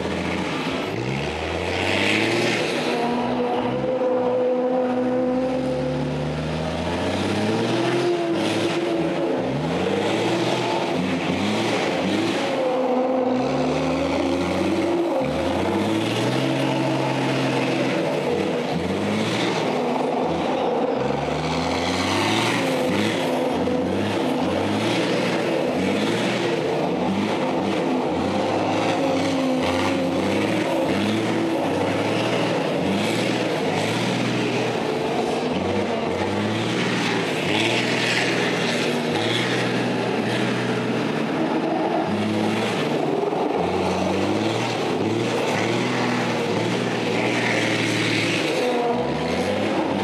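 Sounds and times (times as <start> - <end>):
truck diesel engine revving: 0.0 - 50.0.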